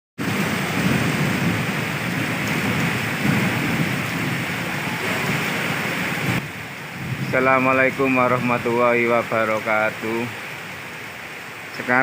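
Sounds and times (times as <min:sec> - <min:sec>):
heavy rain falling: 0:00.2 - 0:12.0.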